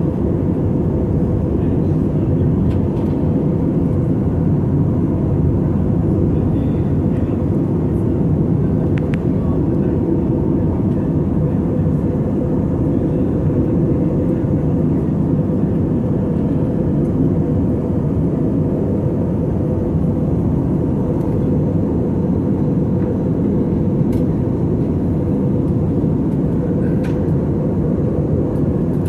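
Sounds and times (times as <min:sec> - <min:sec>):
airplane cabin drone: 0:00.0 - 0:29.0.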